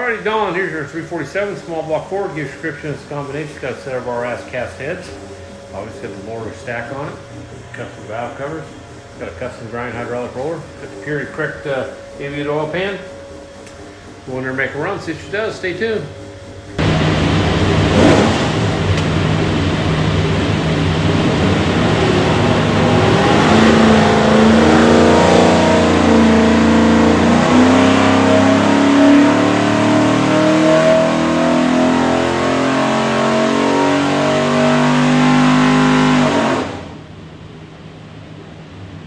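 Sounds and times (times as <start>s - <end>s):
engine running at full throttle: 0.0s - 37.2s.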